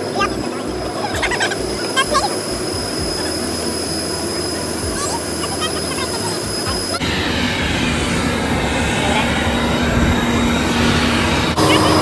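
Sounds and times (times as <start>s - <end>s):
airliner rumbling roar: 0.0s - 12.0s
constant low hum: 0.0s - 12.0s.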